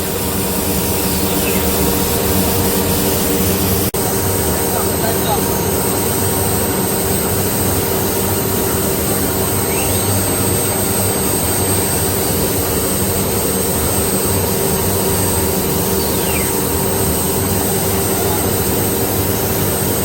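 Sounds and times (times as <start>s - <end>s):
wood router machine noise: 0.0s - 20.0s.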